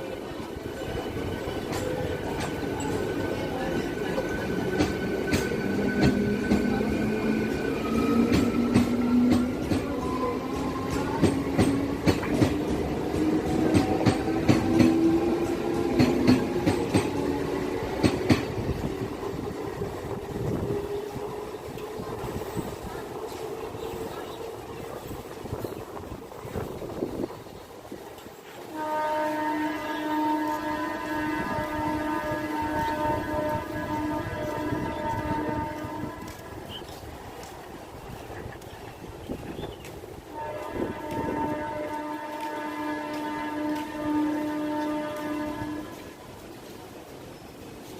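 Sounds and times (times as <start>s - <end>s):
train wheels rumbling on rail: 0.0s - 47.9s
rail joint clicks: 0.1s - 28.8s, 29.7s - 47.9s.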